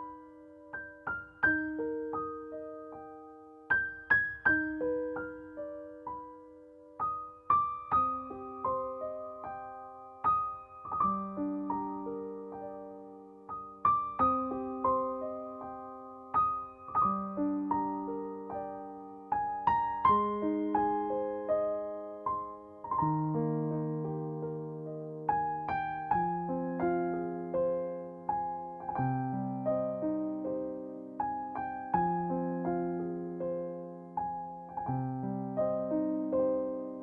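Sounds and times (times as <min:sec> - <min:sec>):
gentle piano melody: 0:00.0 - 0:37.0.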